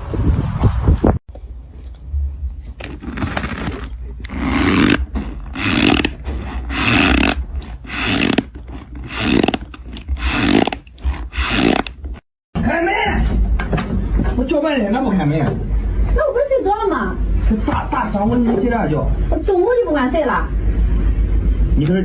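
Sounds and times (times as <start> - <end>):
wind or vehicle noise: 0.0 - 12.2, 13.0 - 22.0.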